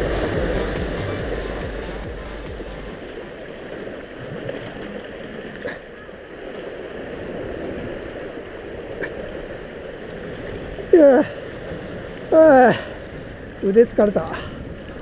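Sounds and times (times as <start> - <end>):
surf breaking on rocks: 0.0 - 12.4.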